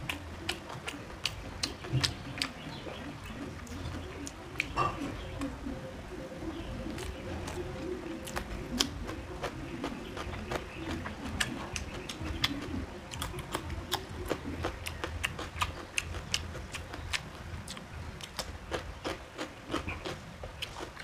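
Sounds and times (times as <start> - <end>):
wet chewing smacks: 0.0 - 5.5, 6.9 - 21.0
steady low hum: 0.0 - 21.0.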